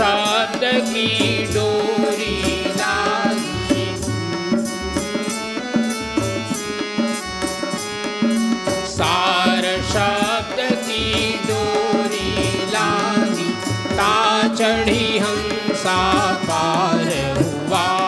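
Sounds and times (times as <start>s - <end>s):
hand drums rhythm: 0.0s - 18.0s
harmonium melody: 0.0s - 18.0s.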